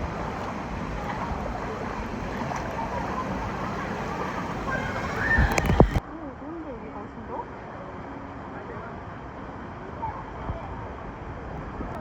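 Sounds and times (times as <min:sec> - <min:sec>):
pool water rushing: 0:00.0 - 0:12.0.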